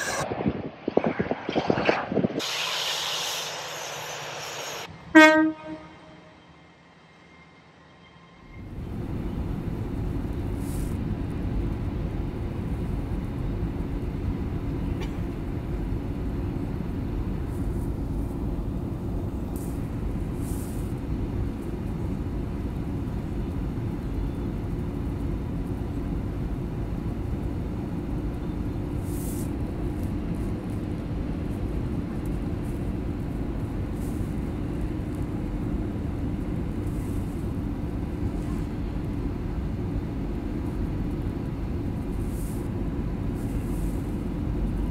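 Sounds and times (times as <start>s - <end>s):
jet engine and airflow rumble: 0.0s - 44.9s.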